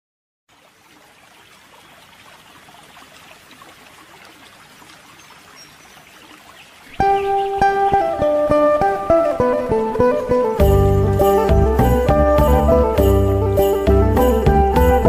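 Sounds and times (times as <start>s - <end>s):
stream trickling and babbling: 0.5s - 15.0s.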